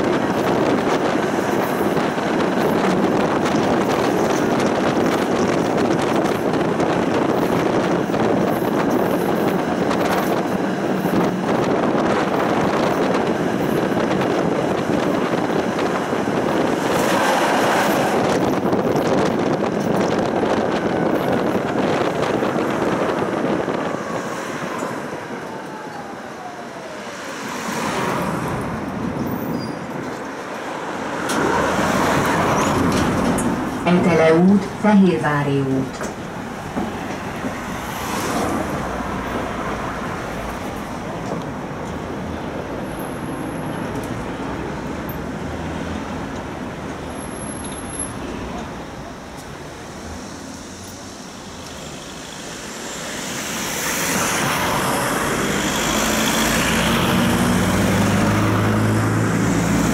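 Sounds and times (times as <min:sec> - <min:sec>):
tram wheels rolling on rails: 0:00.0 - 0:35.0, 0:35.8 - 0:59.9
passing tram rush: 0:00.0 - 0:59.9.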